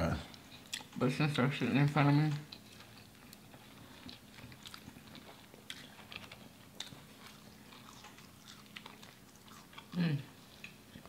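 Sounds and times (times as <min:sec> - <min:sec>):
person chewing food: 0:00.2 - 0:01.0, 0:02.4 - 0:11.0.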